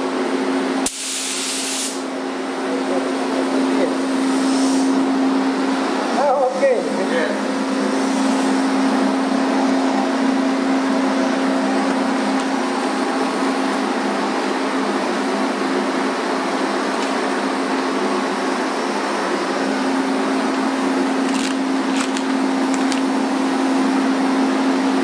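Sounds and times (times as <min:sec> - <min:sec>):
ventilation fan humming: 0:00.0 - 0:25.0.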